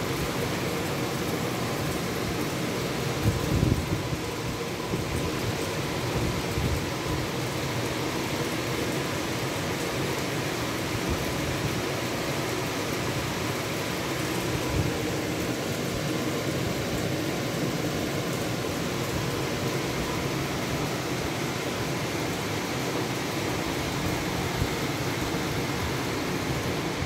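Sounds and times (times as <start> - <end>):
water rushing and splashing: 0.0 - 27.0.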